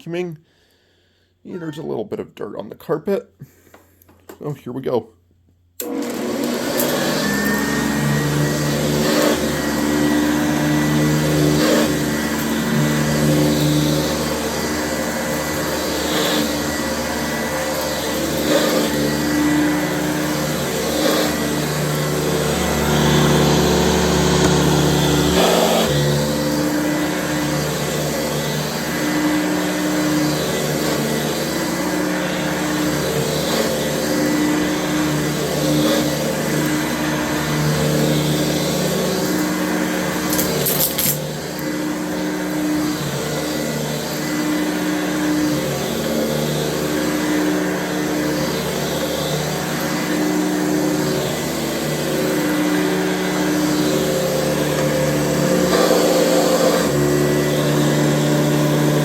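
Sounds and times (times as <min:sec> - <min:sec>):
vacuum cleaner motor whining: 0:05.8 - 0:59.0.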